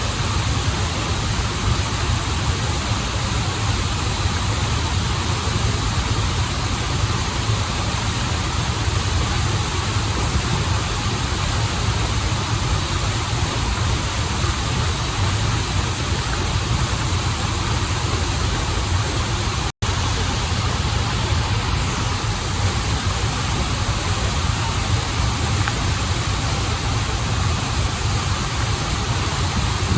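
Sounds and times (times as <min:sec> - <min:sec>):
waterfall and river pouring: 0:00.0 - 0:29.9.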